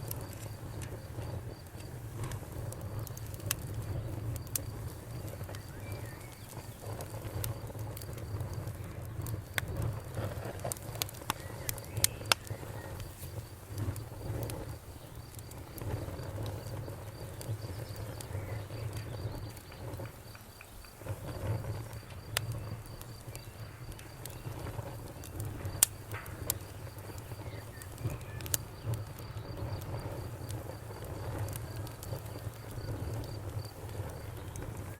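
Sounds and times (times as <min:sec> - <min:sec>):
bonfire crackling and popping: 0:00.0 - 0:34.9
crickets chirping trill: 0:00.0 - 0:34.9
low rumble of flame: 0:00.0 - 0:34.9.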